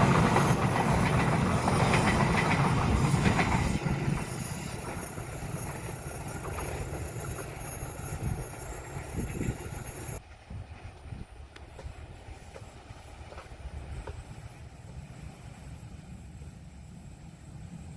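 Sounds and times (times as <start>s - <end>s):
train rumbling on rails: 0.0s - 17.9s.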